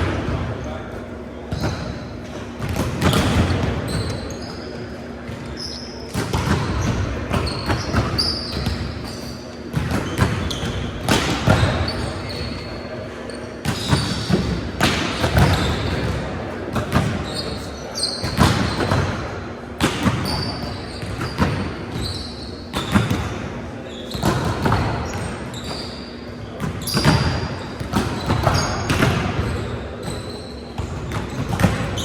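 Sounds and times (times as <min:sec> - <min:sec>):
players' voices: 0:00.0 - 0:32.0
sneakers squeaking on court: 0:00.0 - 0:32.0.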